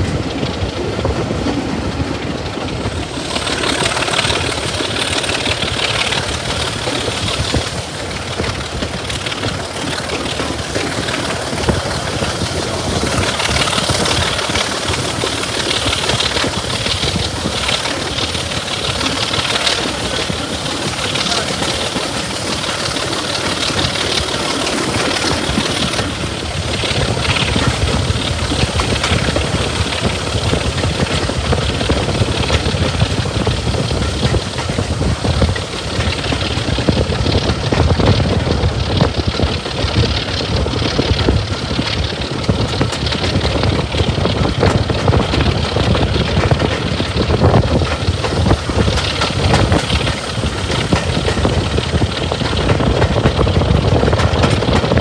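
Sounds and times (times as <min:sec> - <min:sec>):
diesel locomotive engine: 0:00.0 - 0:55.0
train wheels on rails: 0:00.0 - 0:55.0.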